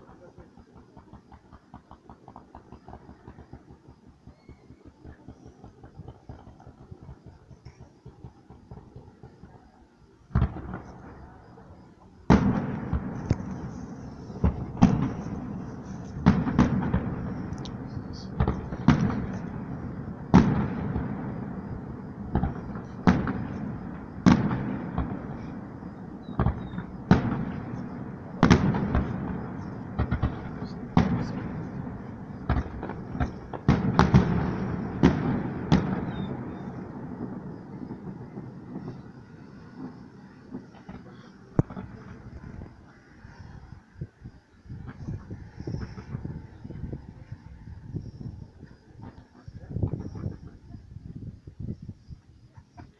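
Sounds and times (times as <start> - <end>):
firework booms with echo: 0.0 - 52.1.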